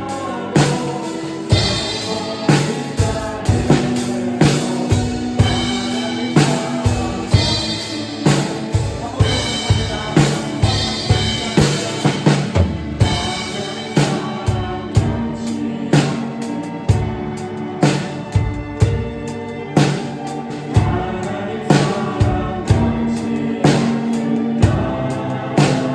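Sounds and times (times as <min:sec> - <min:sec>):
drum kit playing: 0:00.0 - 0:25.9
recorded worship song: 0:00.0 - 0:25.9.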